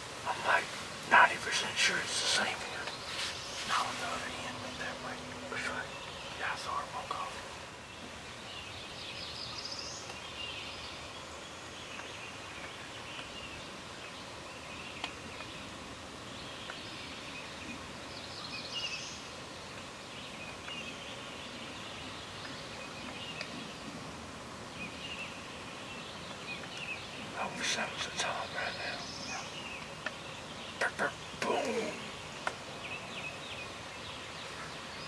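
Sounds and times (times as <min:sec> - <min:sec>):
birds chirping: 0:00.0 - 0:35.0
outdoor background hiss: 0:00.0 - 0:35.0.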